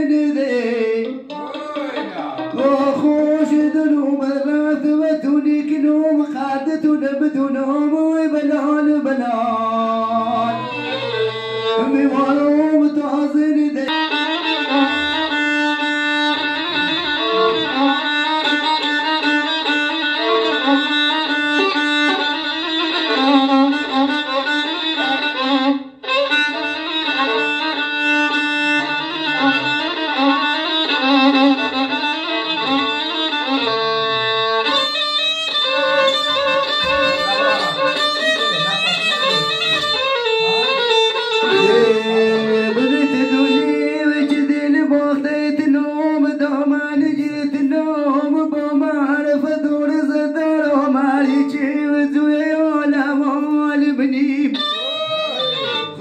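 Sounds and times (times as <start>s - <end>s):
amplified violin melody: 0.0s - 6.6s, 8.3s - 56.0s.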